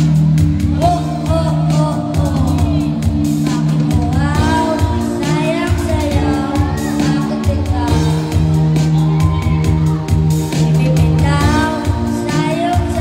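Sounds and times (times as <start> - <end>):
backing track with pulsing bass: 0.0 - 13.0
boy singing into a microphone: 0.5 - 9.8, 10.7 - 13.0.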